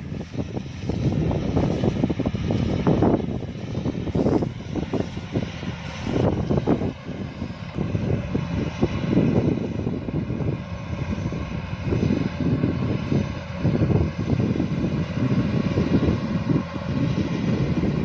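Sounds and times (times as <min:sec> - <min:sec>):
combine harvester rumbling: 0:00.0 - 0:18.0
wind buffeting microphone: 0:00.0 - 0:18.0.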